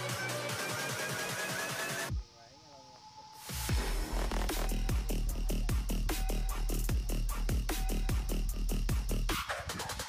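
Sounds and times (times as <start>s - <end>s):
electronic dance music: 0.0s - 2.2s, 3.6s - 10.0s.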